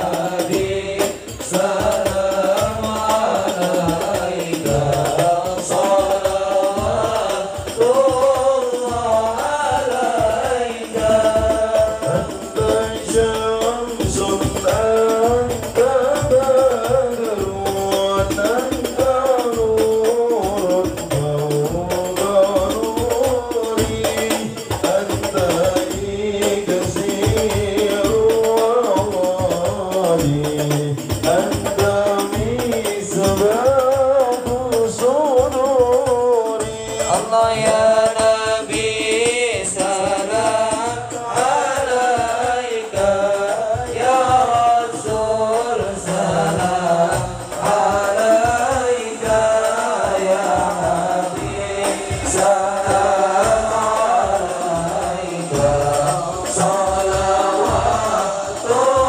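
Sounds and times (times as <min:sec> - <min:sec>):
congregation singing: 0:00.0 - 0:59.0
frame drums beating: 0:00.0 - 0:59.0.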